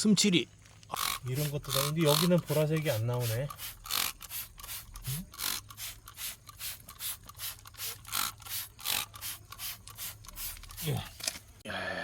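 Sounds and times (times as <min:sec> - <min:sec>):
short noisy spraying strokes: 0:01.0 - 0:11.2.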